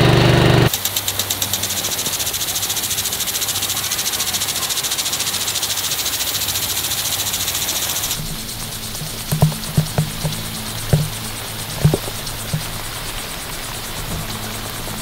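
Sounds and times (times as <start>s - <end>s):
sprinkler arm ticking rapidly: 0.0s - 15.0s
sprinkler spray hissing: 0.0s - 15.0s.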